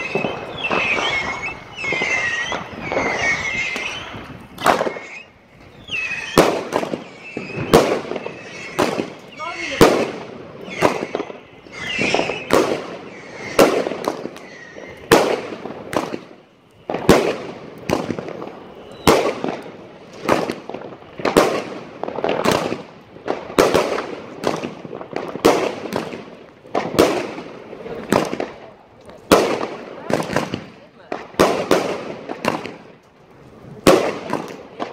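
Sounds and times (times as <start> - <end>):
fireworks bursting with echo: 0.0 - 34.9.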